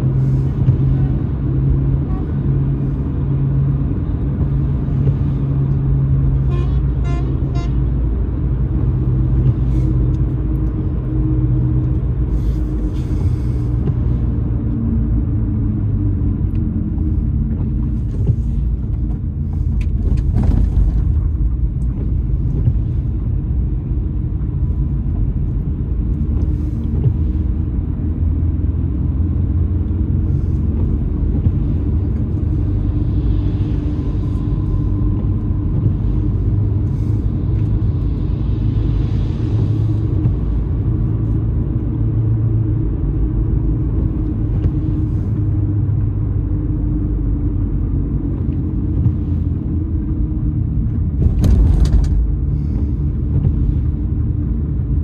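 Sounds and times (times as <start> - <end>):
car driving on wet road: 0.0 - 55.0.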